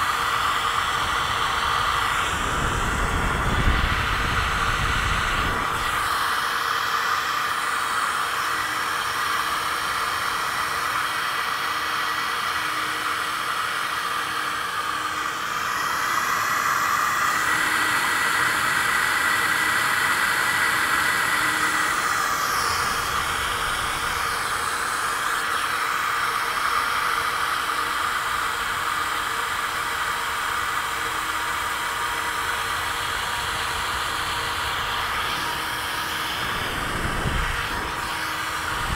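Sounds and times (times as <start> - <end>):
fans rushing air: 0.0 - 38.9.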